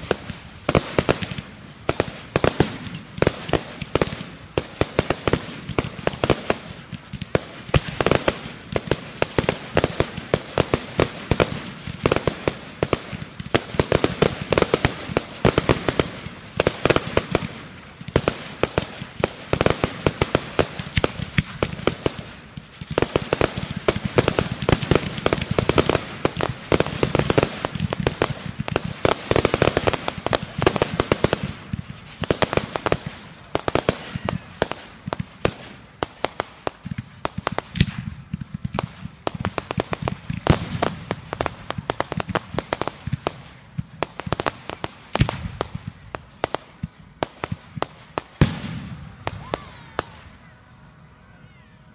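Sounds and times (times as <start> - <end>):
fireworks cracking and popping: 0.0 - 50.5.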